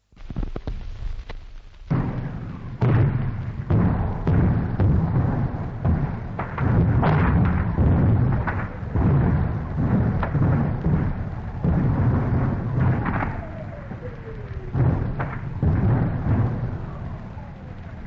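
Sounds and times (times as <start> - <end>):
artillery booms: 1.8 - 18.0
sharp blasts: 1.9 - 17.2.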